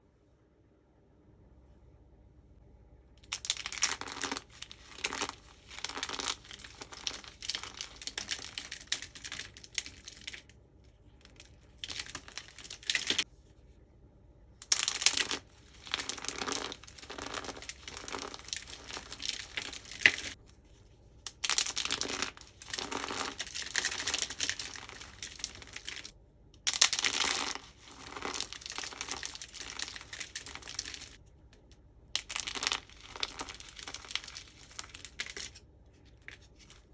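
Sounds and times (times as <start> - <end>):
soap being crunched: 3.2 - 10.5, 11.2 - 13.3, 14.6 - 20.4, 21.2 - 31.2, 32.2 - 36.9.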